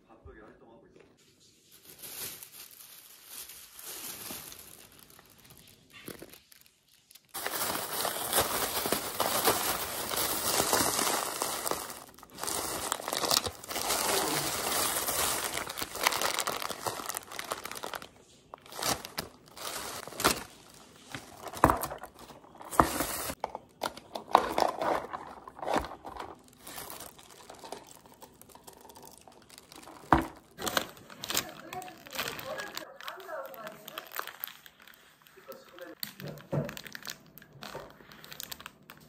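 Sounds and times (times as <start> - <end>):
paper wrappers crinkling: 1.0 - 39.0
plastic bag rustling: 1.2 - 39.0.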